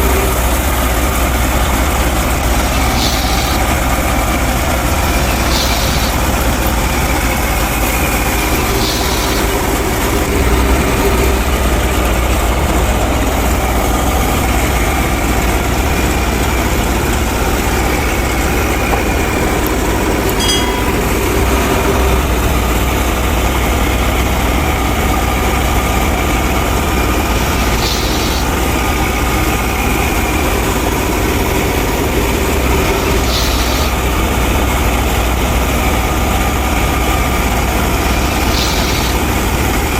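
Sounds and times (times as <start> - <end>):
engine running with deep hum: 0.0 - 39.9.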